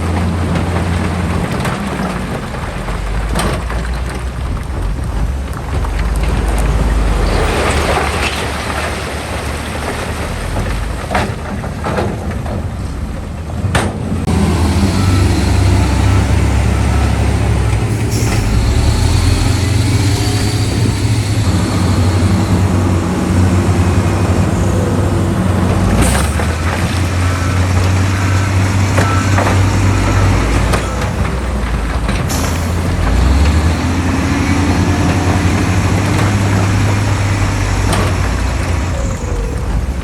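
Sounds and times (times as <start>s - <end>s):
diesel machinery engine rumble: 0.0s - 40.0s.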